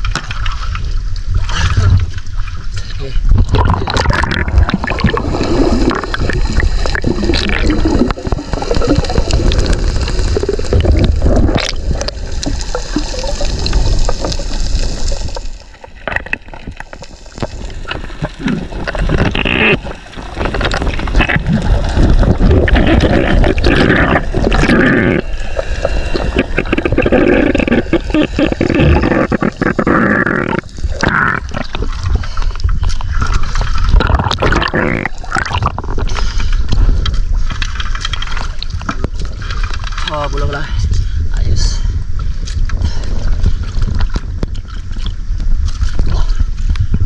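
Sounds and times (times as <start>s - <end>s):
water gurgling underwater: 0.0s - 40.6s, 42.1s - 47.0s.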